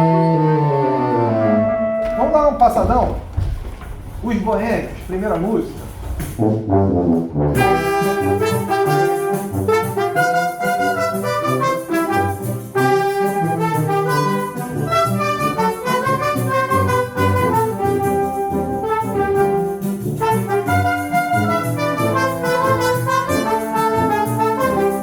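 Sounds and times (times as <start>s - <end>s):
brass wind band playing: 0.0s - 2.2s, 6.4s - 25.0s.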